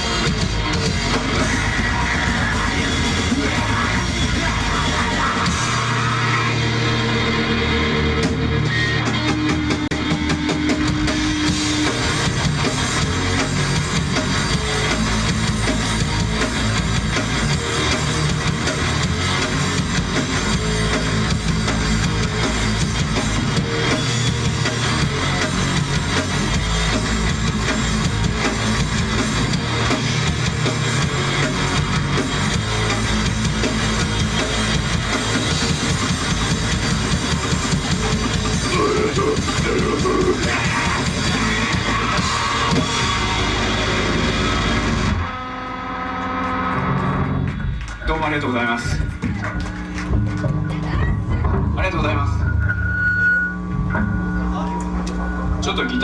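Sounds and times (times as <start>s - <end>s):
electric guitar: 0.0s - 48.0s
drum kit: 0.0s - 56.0s.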